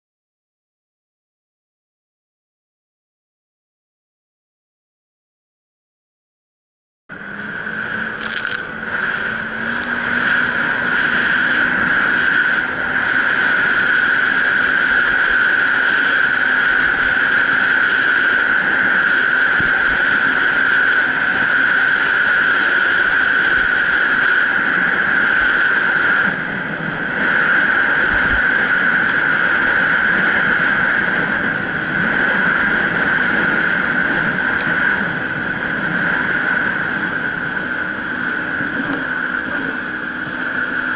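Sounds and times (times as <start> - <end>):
jet ski engine whining: 7.1 - 40.9.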